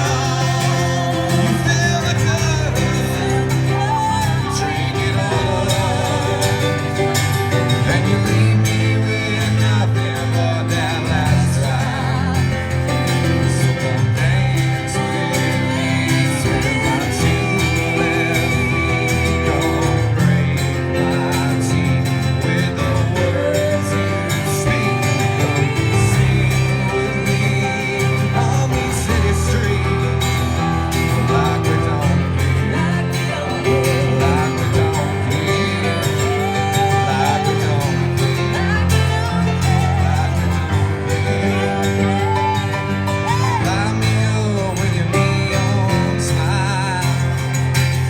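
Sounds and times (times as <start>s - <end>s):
guitars: 0.0s - 48.0s.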